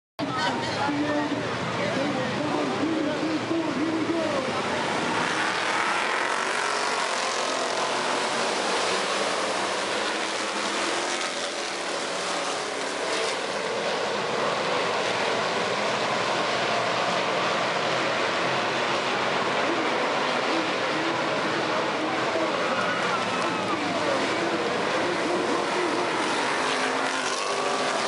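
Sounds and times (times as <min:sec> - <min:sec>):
cars passing close by: 0:00.2 - 0:28.0
race car engines droning: 0:00.2 - 0:28.0.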